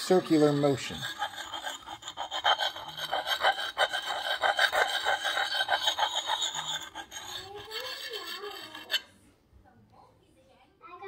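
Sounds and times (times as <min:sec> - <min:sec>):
sharpening stone rasping on axe: 0:00.0 - 0:09.1.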